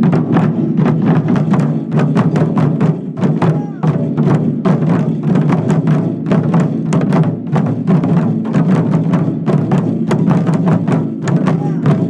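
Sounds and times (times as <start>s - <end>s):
taiko drums playing fast: 0.0s - 12.0s.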